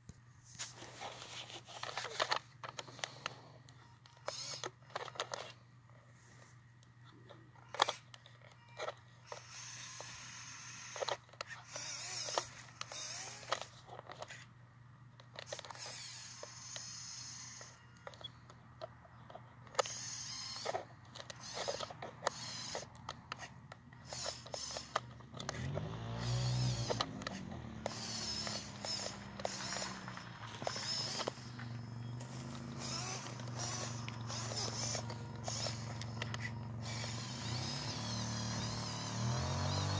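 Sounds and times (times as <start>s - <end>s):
toy truck electric motor whining: 0.6s - 39.9s.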